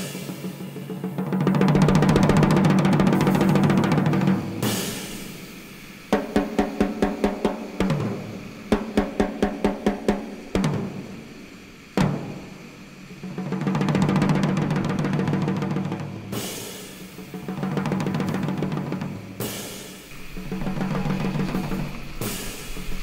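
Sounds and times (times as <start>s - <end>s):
quick runs of drum hits: 0.0s - 23.0s.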